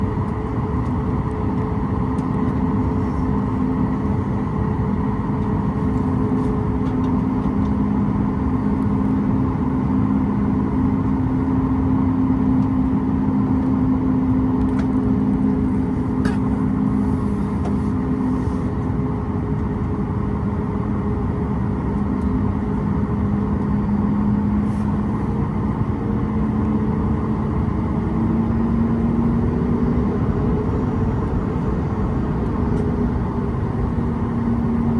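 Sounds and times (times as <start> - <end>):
airliner cabin engine hum: 0.0 - 34.9.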